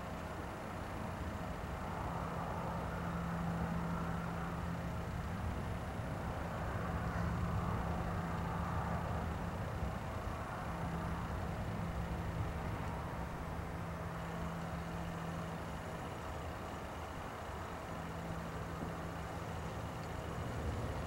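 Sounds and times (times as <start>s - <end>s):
constant low hum: 0.0s - 21.0s
distant low roar in the sky: 0.0s - 21.0s.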